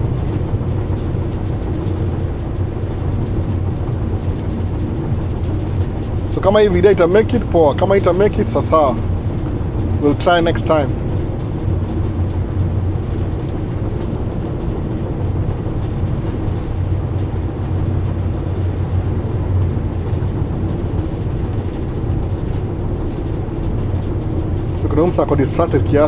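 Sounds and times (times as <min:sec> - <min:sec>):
engine and drivetrain hum: 0:00.0 - 0:26.0.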